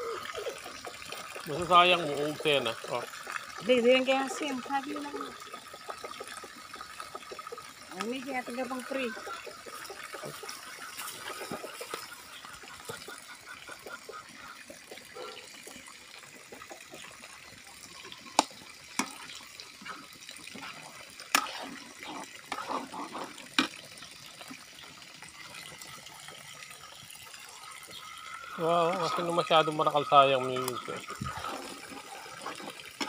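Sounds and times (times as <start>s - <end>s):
soup bubbling in a pan: 0.0s - 33.0s.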